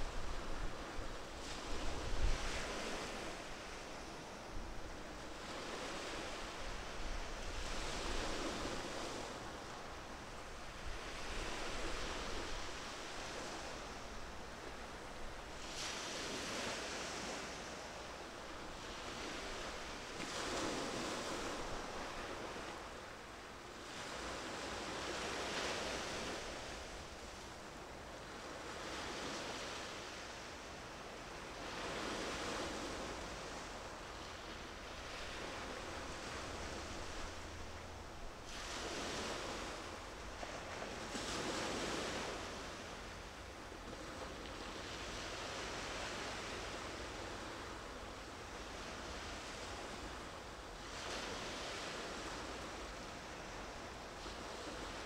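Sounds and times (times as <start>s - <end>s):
sea waves washing in: 0.0s - 55.0s.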